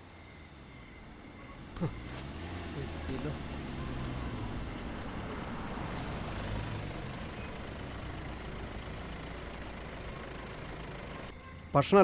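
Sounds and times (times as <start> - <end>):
faint cricket chirps: 0.0 - 12.0.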